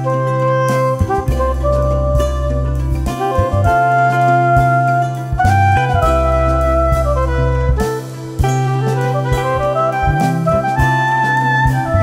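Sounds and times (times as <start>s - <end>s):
instrumental music with bass line: 0.0s - 12.0s.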